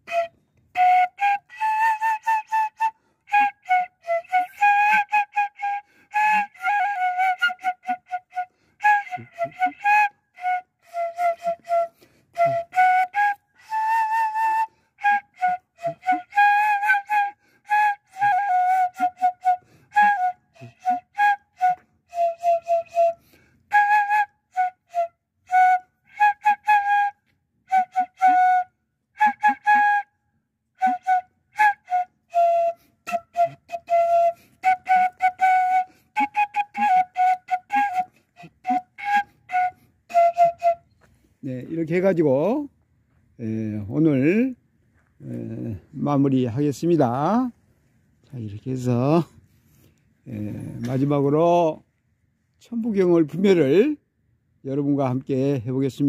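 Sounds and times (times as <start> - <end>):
flute-like tune: 0.0 - 51.2.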